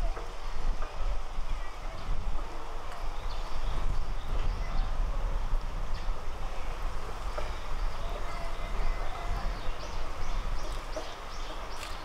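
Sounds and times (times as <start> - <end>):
small birds chirping: 1.5 - 5.1, 5.8 - 12.0.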